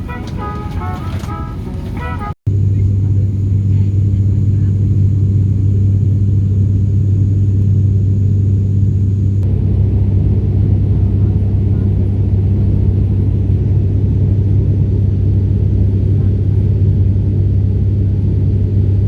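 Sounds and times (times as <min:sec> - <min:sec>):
turboprop engines droning in cabin: 0:00.0 - 0:19.0.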